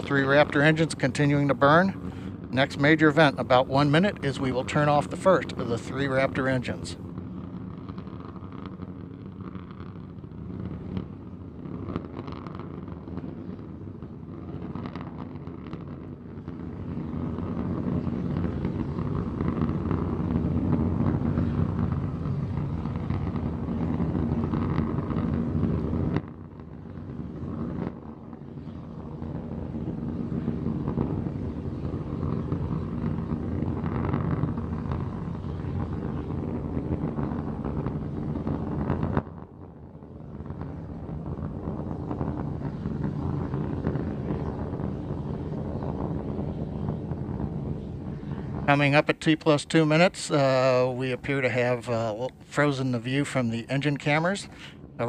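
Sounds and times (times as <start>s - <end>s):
rocket engines rumbling: 0.0s - 55.0s.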